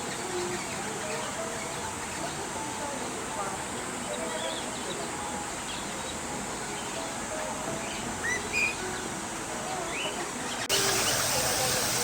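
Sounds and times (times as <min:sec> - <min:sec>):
birds chirping: 0:00.0 - 0:12.0
steady high hiss: 0:00.0 - 0:12.0.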